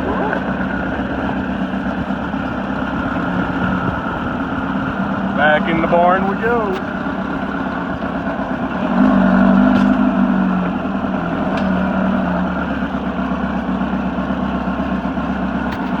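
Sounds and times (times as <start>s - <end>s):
air-cooled car engine running: 0.0s - 16.0s.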